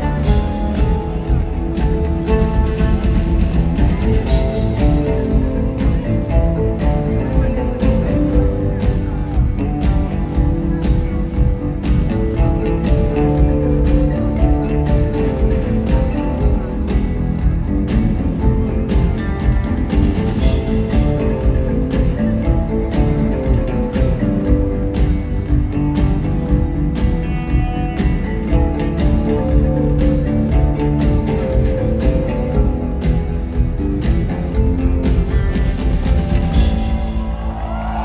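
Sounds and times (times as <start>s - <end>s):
drum beat: 0.0s - 38.0s
rock band playing live: 0.0s - 38.0s.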